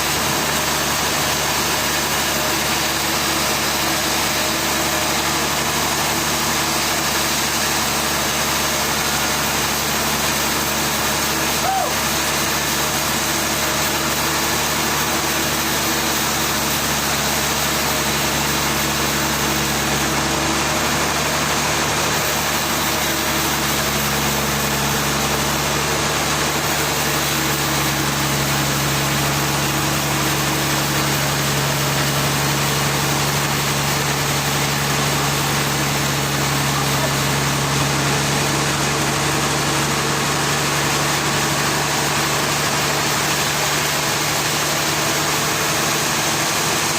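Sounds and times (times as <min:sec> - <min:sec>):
engine humming steadily: 0:00.0 - 0:46.9.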